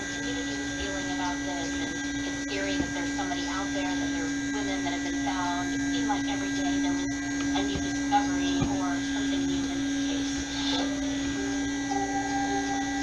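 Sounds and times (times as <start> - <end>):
stick blender motor hum: 0.0 - 13.0.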